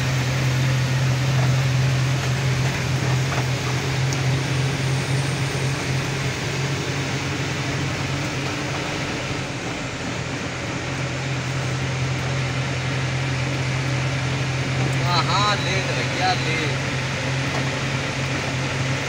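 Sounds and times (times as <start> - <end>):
road and wind noise: 0.0 - 19.0
truck diesel engine droning: 0.0 - 19.0.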